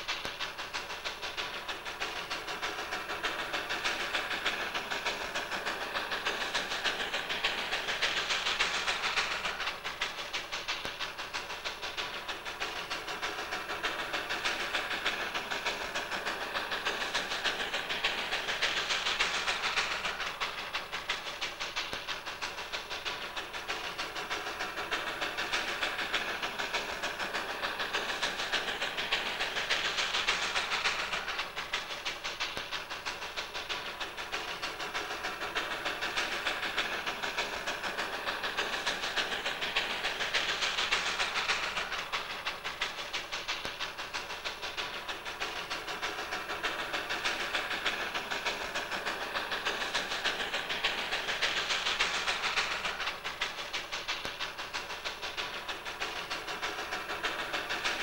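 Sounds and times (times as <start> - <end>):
steam train exhaust beat and hiss: 0.0 - 58.0.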